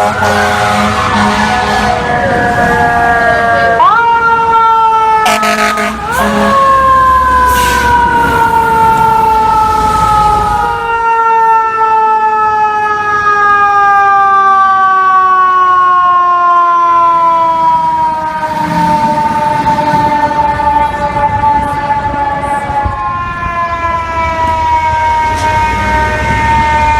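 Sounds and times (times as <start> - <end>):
mechanical siren wailing: 0.0 - 26.9
truck engine and road noise: 0.0 - 26.9.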